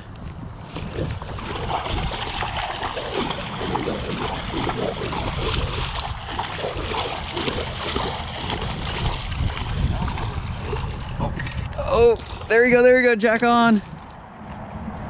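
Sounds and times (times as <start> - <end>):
water splashing and churning: 0.0 - 14.3.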